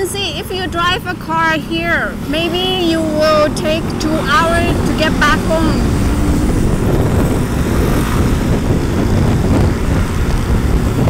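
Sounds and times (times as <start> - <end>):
motorbike engine: 0.0 - 11.0
street traffic: 0.0 - 11.0
wind noise on microphone: 0.0 - 11.0.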